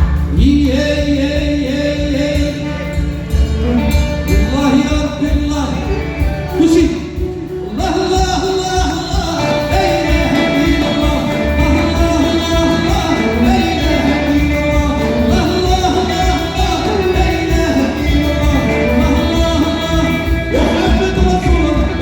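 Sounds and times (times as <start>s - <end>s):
percussion beat: 0.0s - 22.0s
person singing: 0.0s - 22.0s.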